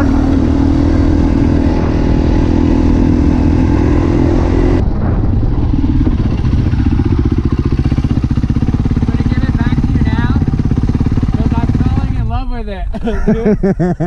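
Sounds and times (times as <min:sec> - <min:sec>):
dirt bike engine revving and idling: 0:00.0 - 0:04.8, 0:05.6 - 0:12.4.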